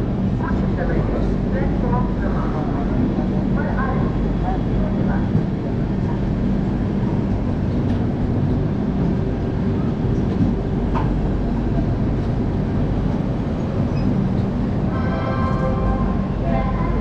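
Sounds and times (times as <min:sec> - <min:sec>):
train coaches rumbling: 0:00.0 - 0:17.0.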